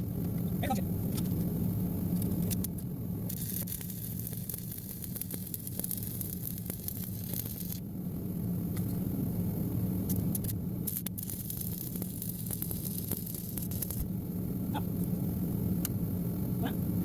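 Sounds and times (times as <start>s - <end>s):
low steady hum: 0.0s - 17.0s
welding arc crackling hiss: 0.0s - 17.0s.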